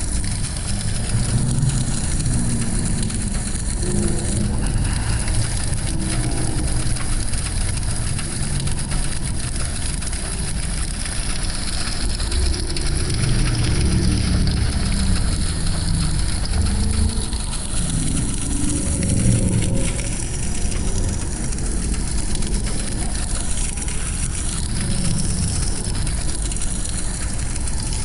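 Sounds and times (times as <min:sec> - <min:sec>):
fire crackling hiss: 0:00.0 - 0:28.0
flames burning low rumble: 0:00.0 - 0:28.0.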